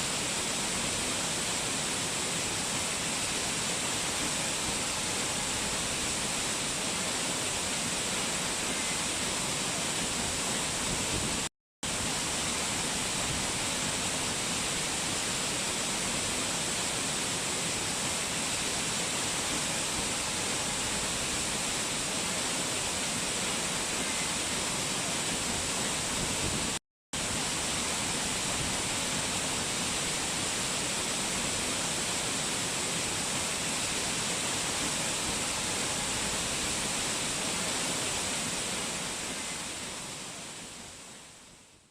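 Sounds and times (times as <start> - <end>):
rushing water: 0.0 - 41.8.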